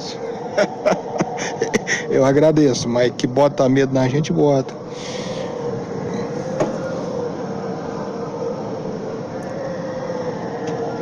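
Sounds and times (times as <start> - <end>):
ferry engine droning: 0.0 - 11.0.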